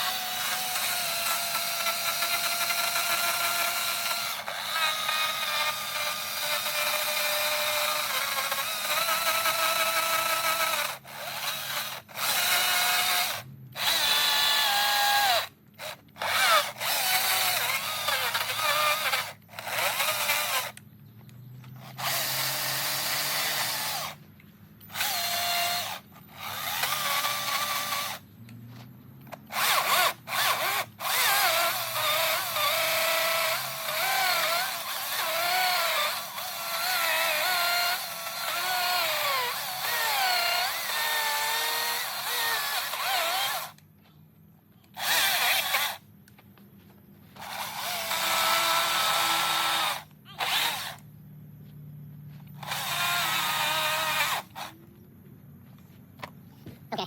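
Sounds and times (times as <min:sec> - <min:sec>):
chainsaw cutting wood: 0:00.0 - 0:20.8, 0:21.7 - 0:24.2, 0:24.8 - 0:43.8, 0:44.9 - 0:46.1, 0:47.3 - 0:51.0, 0:52.3 - 0:54.8.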